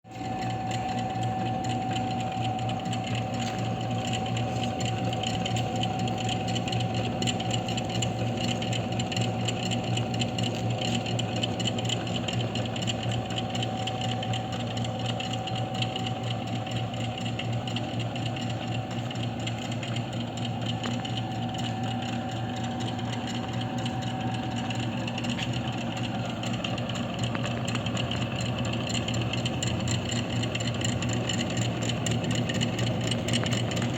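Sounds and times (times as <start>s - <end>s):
drill press motor whining: 0.1s - 33.9s.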